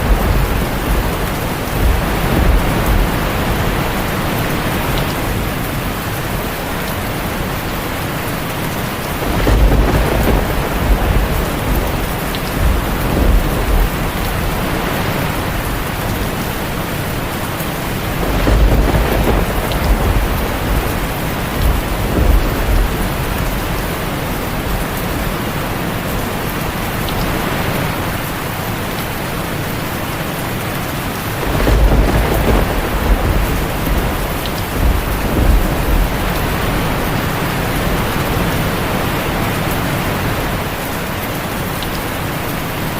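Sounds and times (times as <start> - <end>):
low thunder rumbling: 0.0 - 26.2, 31.1 - 40.8
heavy rain on a tin roof: 0.0 - 42.9.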